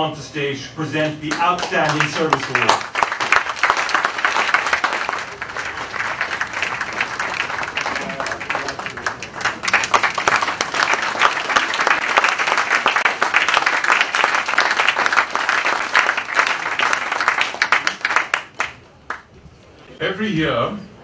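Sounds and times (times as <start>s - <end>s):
audience applauding: 1.2s - 19.3s.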